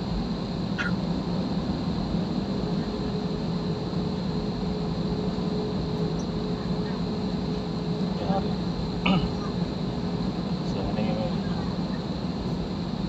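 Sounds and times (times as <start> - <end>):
jet engines rumble and hiss: 0.0 - 13.0.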